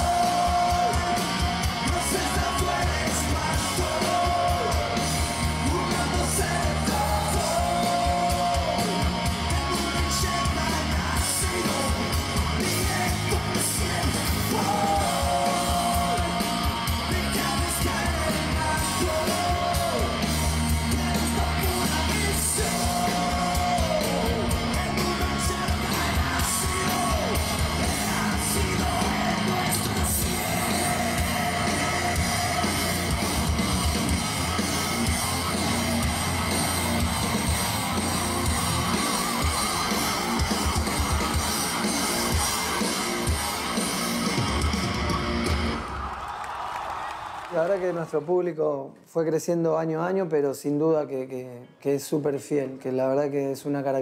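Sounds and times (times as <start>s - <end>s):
live metal band playing: 0.0s - 45.9s
lead vocal yelling and singing: 0.0s - 48.0s.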